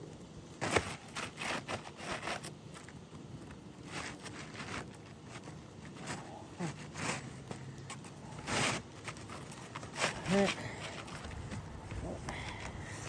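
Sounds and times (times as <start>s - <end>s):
roof snake scraping shingle: 0.6s - 3.0s, 3.8s - 12.1s.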